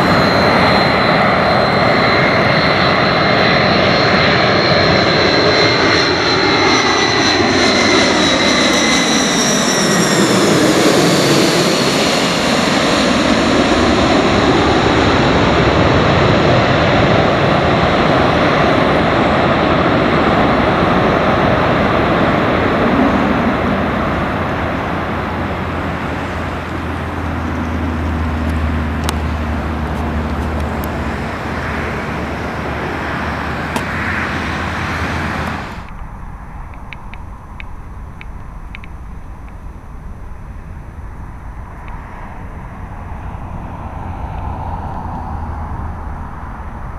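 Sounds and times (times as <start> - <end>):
jet engines passing overhead: 0.0 - 46.9.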